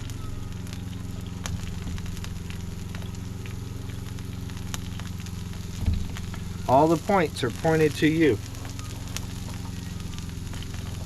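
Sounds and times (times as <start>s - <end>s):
food sizzling and popping on grill: 0.0s - 11.0s
steady low hum: 0.0s - 11.0s.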